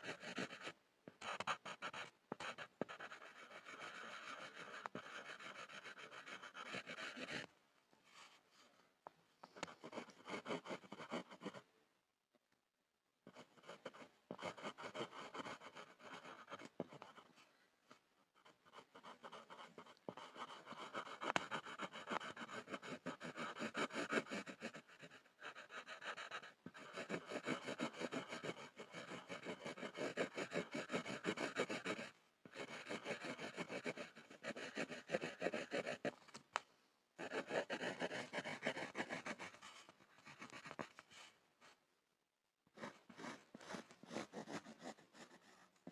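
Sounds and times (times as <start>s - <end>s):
pencil scribbling on wood: 0.0s - 7.5s, 9.6s - 11.6s, 13.3s - 17.4s, 18.4s - 36.1s, 37.2s - 41.8s, 42.7s - 45.9s.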